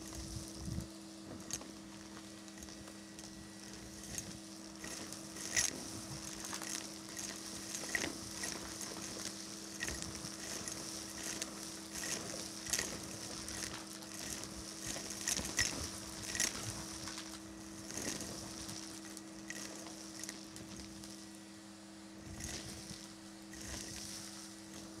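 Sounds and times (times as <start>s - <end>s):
vacuum cleaner running: 0.0s - 25.0s
debris rattling in vacuum tube: 1.4s - 21.3s, 22.2s - 25.0s.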